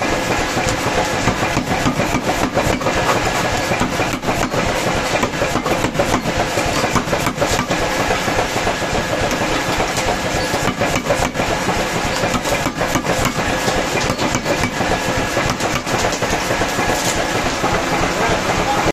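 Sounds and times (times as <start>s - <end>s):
power hammer striking steel: 0.0s - 18.8s.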